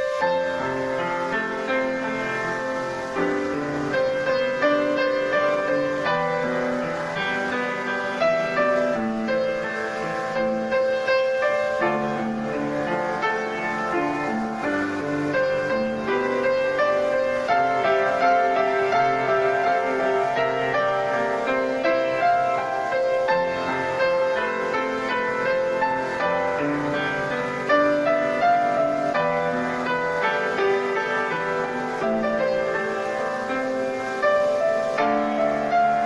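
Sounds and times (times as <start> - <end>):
gentle piano melody: 0.0 - 36.0.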